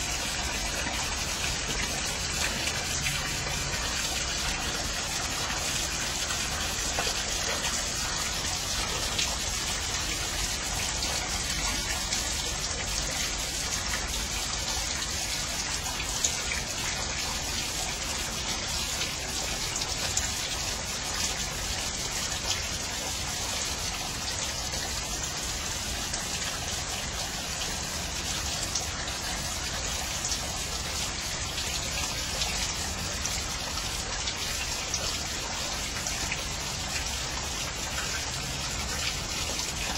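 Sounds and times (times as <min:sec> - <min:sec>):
rain hissing: 0:00.0 - 0:39.9
raindrops ticking close by: 0:00.0 - 0:39.9.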